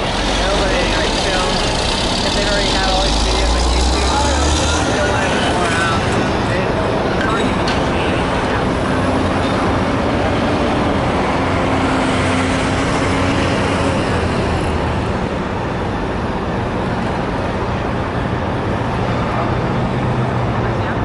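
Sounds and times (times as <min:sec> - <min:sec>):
city traffic: 0:00.0 - 0:21.0
engine humming: 0:00.0 - 0:21.0.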